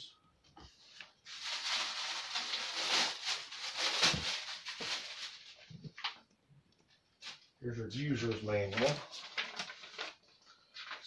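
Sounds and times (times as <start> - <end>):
plastic and cardboard rustling: 0.6 - 6.4, 7.2 - 11.0.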